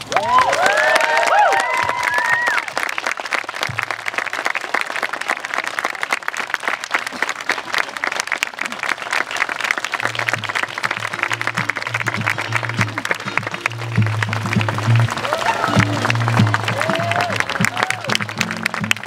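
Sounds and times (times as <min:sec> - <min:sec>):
crowd applauding: 0:00.0 - 0:19.0
crowd cheering: 0:00.0 - 0:19.0.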